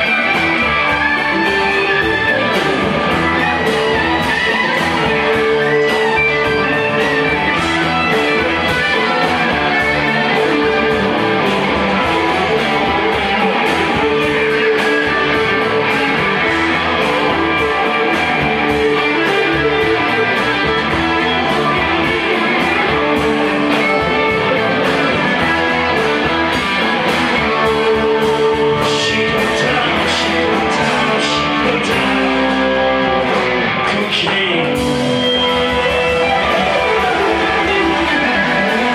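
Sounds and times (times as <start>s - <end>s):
bass guitar: 0.0s - 38.9s
electric guitars: 0.0s - 38.9s
steady drum beat: 0.0s - 38.9s.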